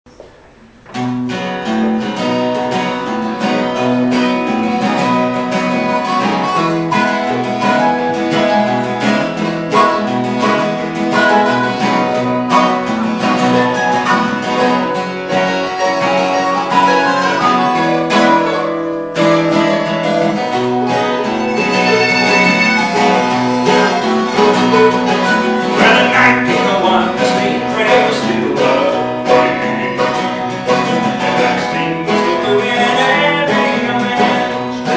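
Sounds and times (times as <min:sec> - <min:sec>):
acoustic guitar strumming: 0:00.1 - 0:34.9
mandolin: 0:00.2 - 0:34.9
harmonica notes: 0:01.1 - 0:34.9.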